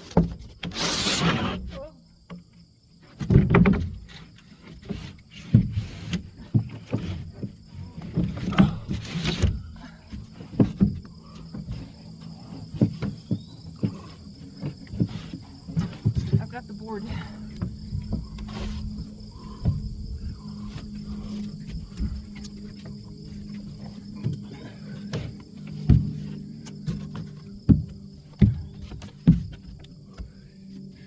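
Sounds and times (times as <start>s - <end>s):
plywood sheet knocking and scraping: 0.0s - 1.8s, 3.0s - 30.3s
insect chirring: 3.9s - 31.0s.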